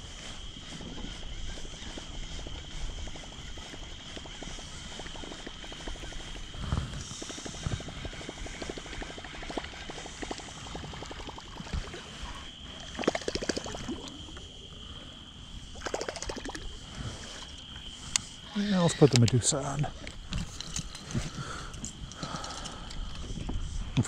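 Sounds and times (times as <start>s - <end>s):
faint high whine: 0.0s - 24.0s
fishing reel ticking: 0.2s - 14.5s, 15.8s - 23.6s.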